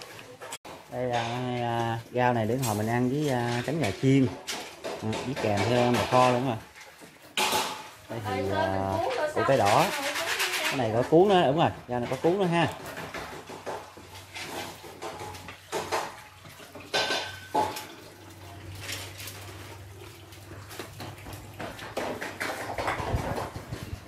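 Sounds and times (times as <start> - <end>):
metal pots and dishes clinking: 0.0 - 24.0.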